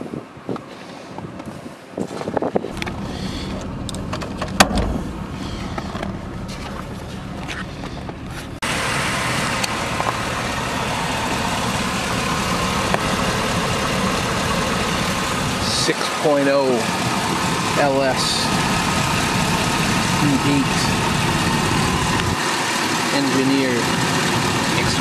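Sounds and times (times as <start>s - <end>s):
car engine idling: 2.7s - 25.0s.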